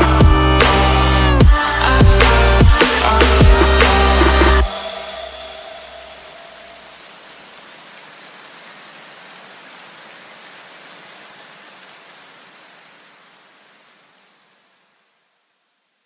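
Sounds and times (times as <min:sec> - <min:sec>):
falling water hiss: 0:00.6 - 0:16.0.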